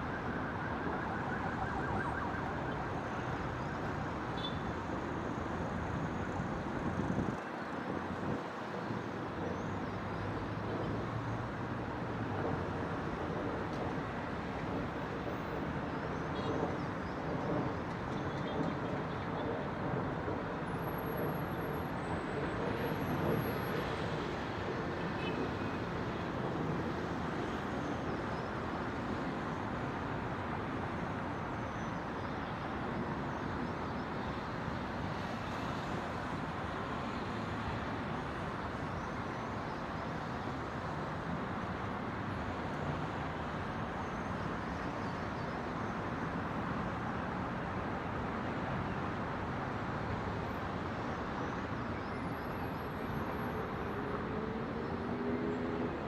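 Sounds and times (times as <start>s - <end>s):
distant road traffic hum: 0.0s - 56.0s.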